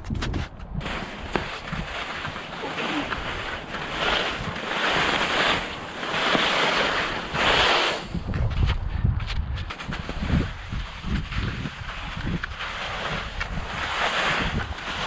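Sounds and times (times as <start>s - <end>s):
wind rumble on microphone: 0.0s - 15.0s
skis sliding over wet snow: 0.8s - 8.8s, 9.6s - 15.0s.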